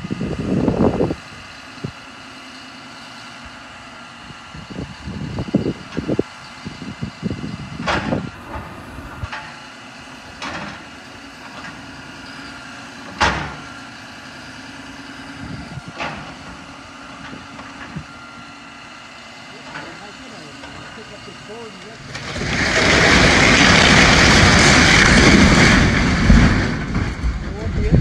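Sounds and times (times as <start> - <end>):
heavy equipment engine running: 0.0 - 28.0.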